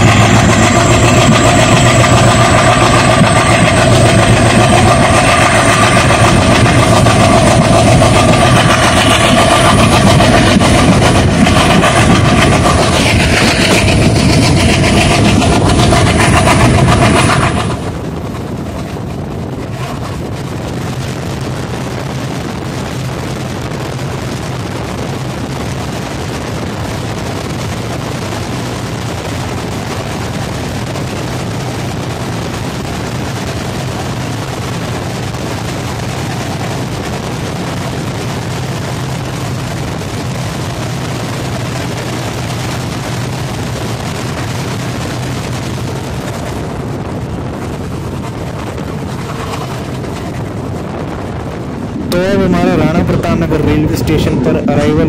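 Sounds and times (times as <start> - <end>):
train wheels rushing on rails: 0.0 - 55.0.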